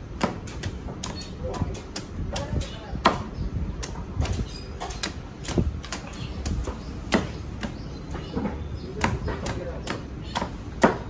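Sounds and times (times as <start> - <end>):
machete chopping coconut husk: 0.2 - 7.8, 9.0 - 11.0.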